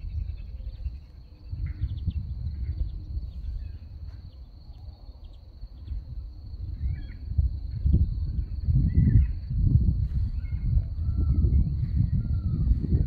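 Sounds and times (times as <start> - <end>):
faint bird chirps: 0.0 - 9.5, 10.1 - 12.8
high insect trill: 0.0 - 13.0.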